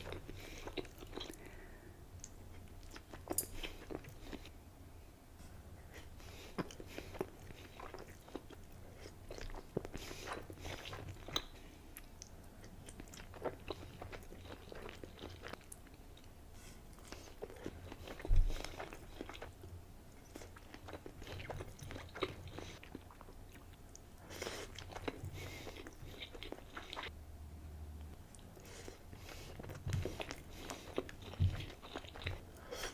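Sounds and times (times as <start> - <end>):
person chewing seafood: 0.0 - 4.5, 5.9 - 27.1, 28.3 - 32.9.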